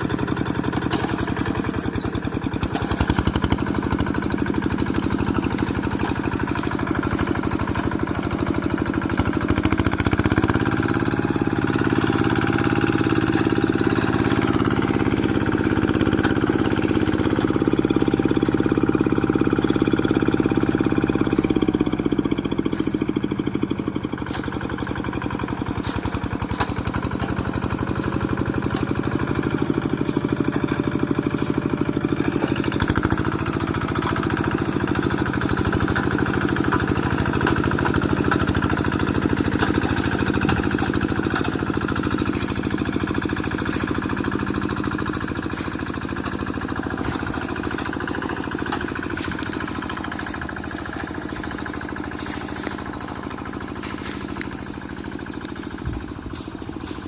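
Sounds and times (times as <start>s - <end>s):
hand tractor engine running: 0.0s - 57.0s.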